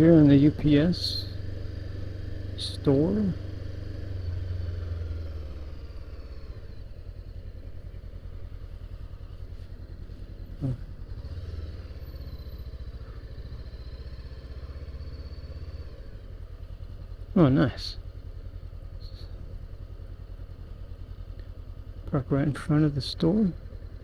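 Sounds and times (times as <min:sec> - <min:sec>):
motorcycle engine running at low revs: 0:00.0 - 0:24.0.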